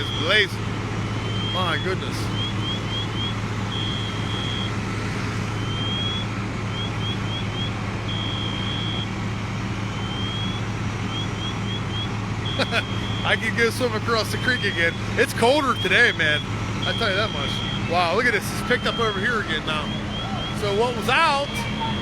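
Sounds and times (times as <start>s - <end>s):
high electronic alarm: 0.0s - 0.5s, 1.2s - 4.9s, 5.6s - 9.2s, 9.9s - 21.7s
low engine drone: 0.0s - 22.0s.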